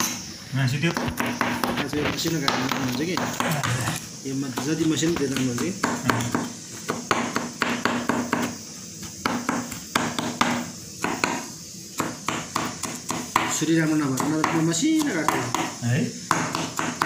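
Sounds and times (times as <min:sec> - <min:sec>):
knife chopping on plastic cutting board: 0:00.8 - 0:17.0.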